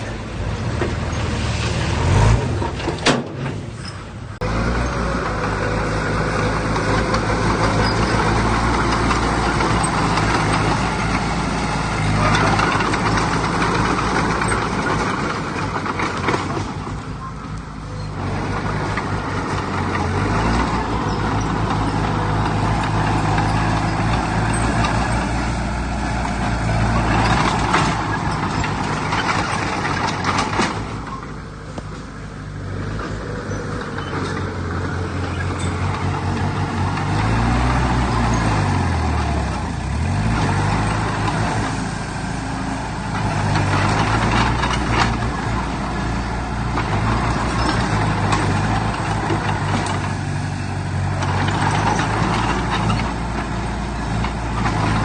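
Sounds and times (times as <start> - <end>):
heavy diesel machinery engines: 0.0 - 55.0.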